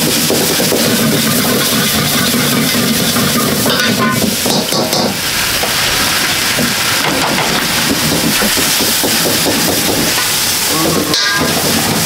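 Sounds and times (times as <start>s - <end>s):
food frying with loud hiss: 0.0s - 12.0s.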